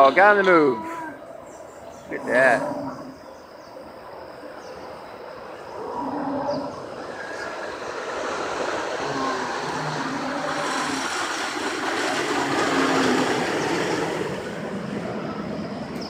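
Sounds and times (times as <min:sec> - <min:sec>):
roller coaster train rumbling: 0:00.0 - 0:16.0.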